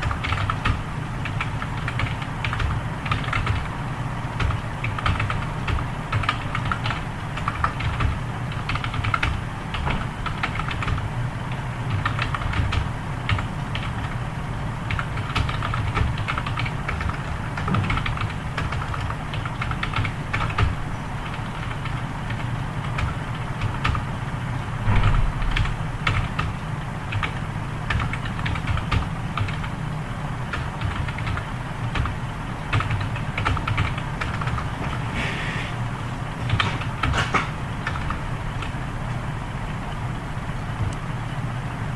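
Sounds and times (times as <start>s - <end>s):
fast typing on keyboard: 0.0s - 14.2s, 14.8s - 24.1s, 25.5s - 29.8s, 30.4s - 35.0s, 36.4s - 37.2s, 37.8s - 38.8s
low steady hum: 0.0s - 41.9s.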